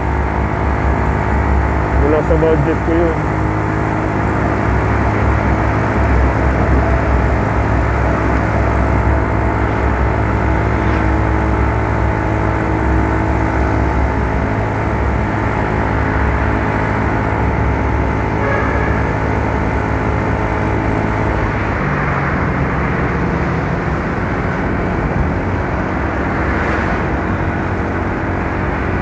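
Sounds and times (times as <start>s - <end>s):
scooter engine: 0.0s - 29.0s
wind rumble on microphone: 0.0s - 29.0s.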